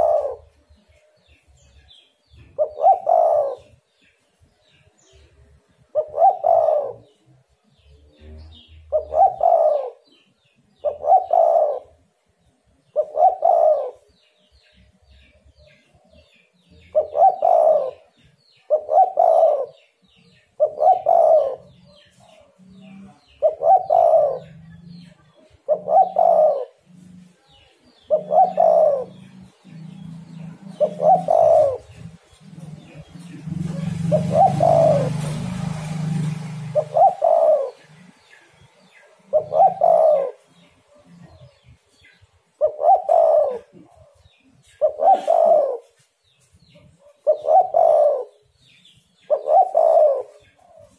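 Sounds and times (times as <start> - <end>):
dove cooing: 0.0 - 0.6, 2.4 - 3.9, 5.2 - 7.2, 8.2 - 12.1, 12.8 - 14.2, 15.6 - 50.9.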